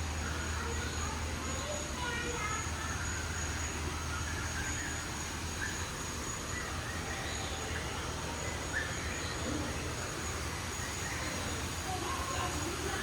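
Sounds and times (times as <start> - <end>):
background hiss: 0.0 - 13.0
faint bird chirps: 0.0 - 13.0.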